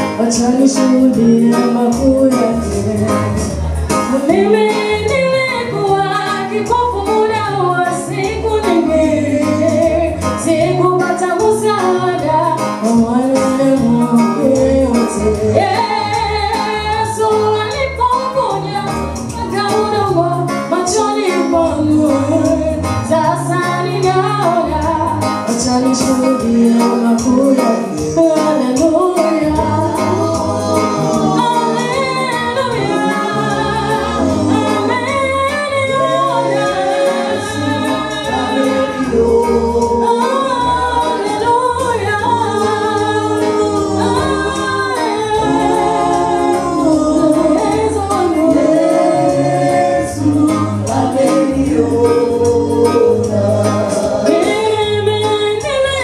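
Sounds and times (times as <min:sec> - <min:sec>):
bass line: 0:00.0 - 0:56.0
gospel vocal group singing: 0:00.0 - 0:56.0.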